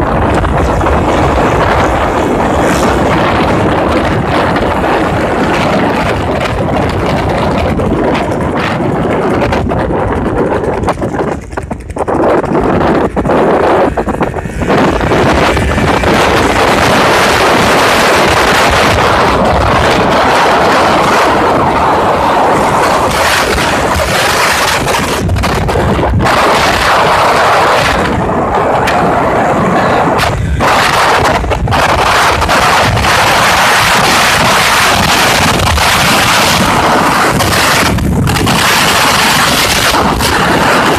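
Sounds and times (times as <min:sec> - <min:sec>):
motorcycle road noise: 0:00.0 - 0:40.9
wind buffeting microphone: 0:00.0 - 0:40.9.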